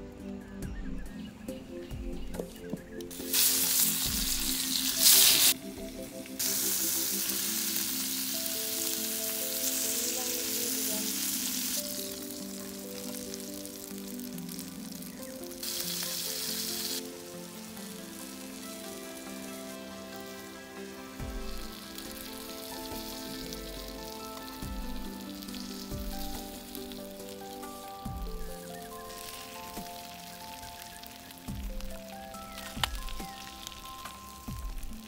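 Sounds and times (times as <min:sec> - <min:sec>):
fish frying in hot oil: 0:03.1 - 0:35.0.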